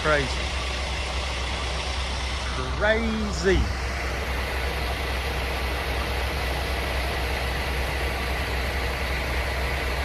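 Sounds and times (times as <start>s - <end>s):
truck engine droning: 0.0s - 10.0s.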